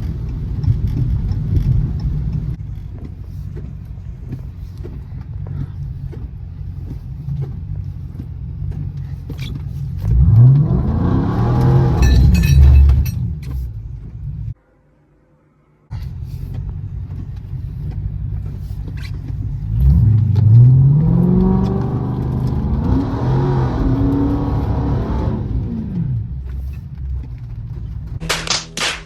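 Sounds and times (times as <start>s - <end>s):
turn signal ticking: 0.0s - 14.5s, 16.1s - 28.2s
car engine running and revving: 0.0s - 14.6s, 15.9s - 28.3s.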